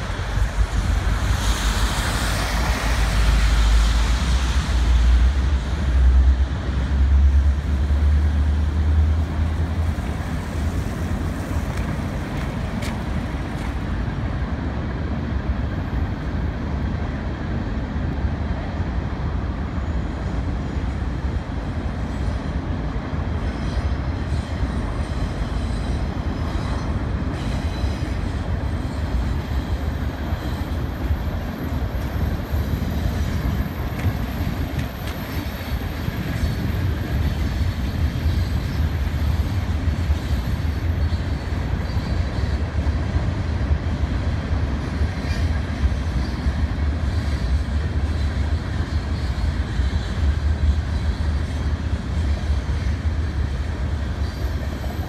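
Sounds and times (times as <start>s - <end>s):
clickety-clack over rail joints: 0.0s - 55.0s
steel wheels rumbling on rails: 0.0s - 55.0s.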